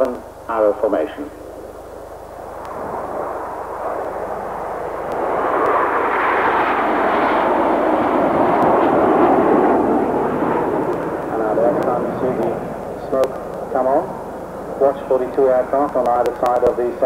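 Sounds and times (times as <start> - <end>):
jets passing in formation: 0.0 - 17.0.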